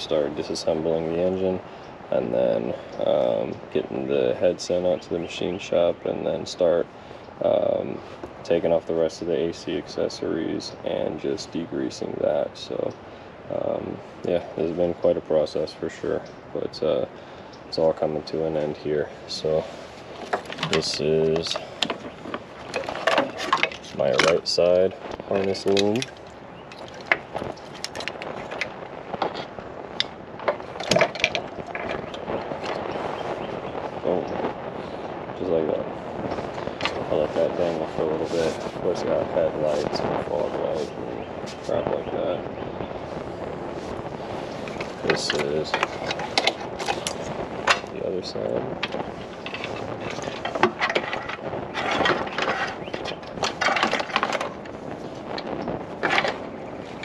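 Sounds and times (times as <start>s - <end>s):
wiring and hoses rustling: 0.0s - 57.0s.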